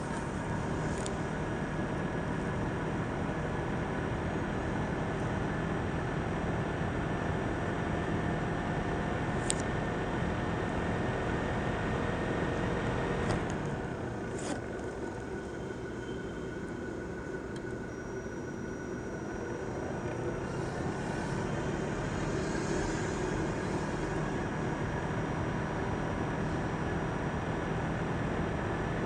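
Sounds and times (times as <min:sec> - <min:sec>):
laptop cooling fan whirring: 0:00.0 - 0:29.0.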